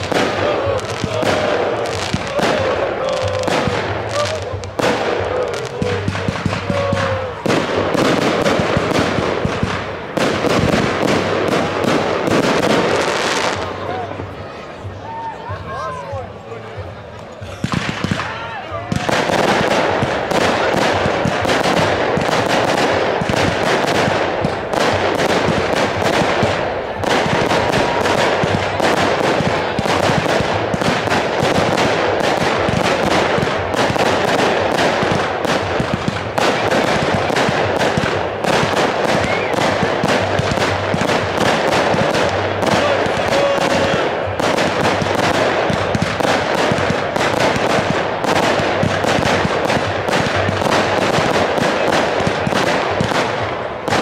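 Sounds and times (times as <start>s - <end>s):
fireworks rapid bangs and crackling: 0.0s - 13.8s, 17.5s - 54.0s.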